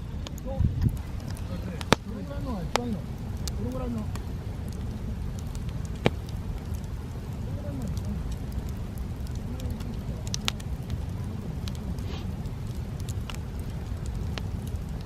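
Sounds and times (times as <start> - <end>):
bonfire pops and snaps: 0.0 - 15.0
low fire rumble: 0.0 - 15.0.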